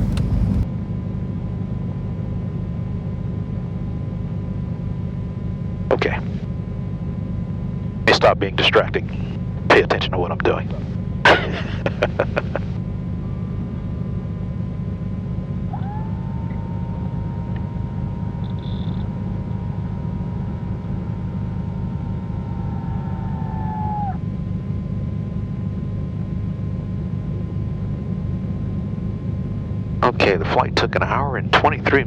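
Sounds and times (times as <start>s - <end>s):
aircraft engines low rumble: 0.0s - 32.0s.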